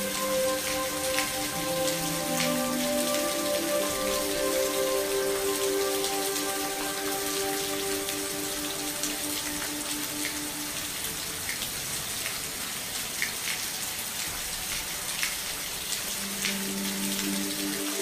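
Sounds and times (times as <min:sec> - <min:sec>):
steady rainfall hiss: 0:00.0 - 0:18.0.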